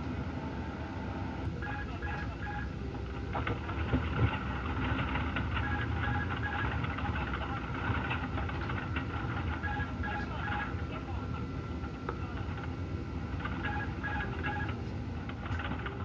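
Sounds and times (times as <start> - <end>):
aircraft noise: 0.2 - 16.0.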